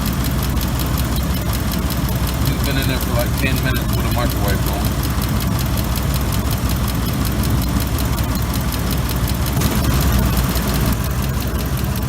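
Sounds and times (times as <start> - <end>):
air conditioning running: 0.0 - 12.0
truck engine idling: 0.0 - 12.0.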